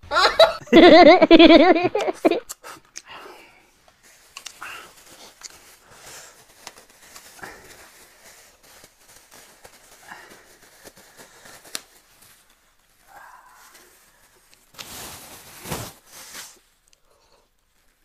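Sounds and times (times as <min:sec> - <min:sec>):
plastic gloves crinkling: 0:00.8 - 0:18.0.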